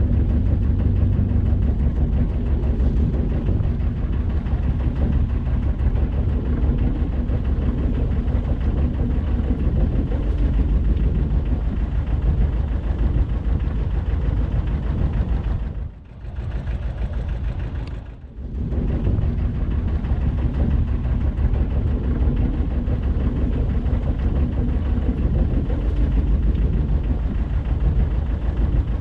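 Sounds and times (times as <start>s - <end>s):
motor boat engine throbbing: 0.0s - 29.0s.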